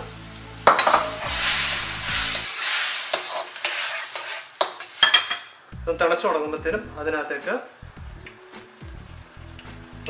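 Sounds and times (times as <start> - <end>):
chicken sizzling in a wok: 0.0 - 10.0.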